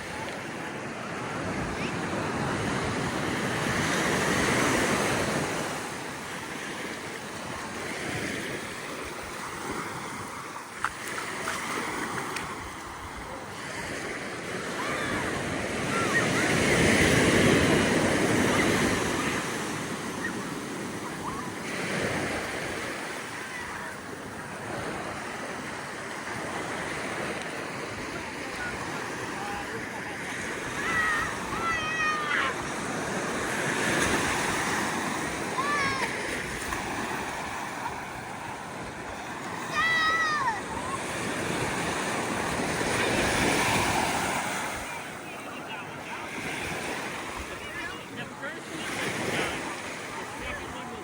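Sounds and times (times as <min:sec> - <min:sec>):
ocean surf breaking on beach: 0:00.0 - 0:51.0.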